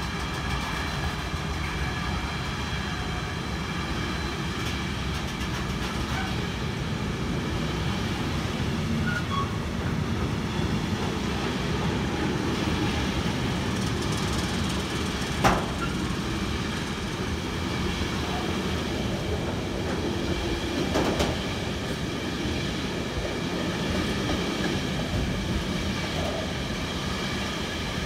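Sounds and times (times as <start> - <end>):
train rolling rumble: 0.0 - 28.0.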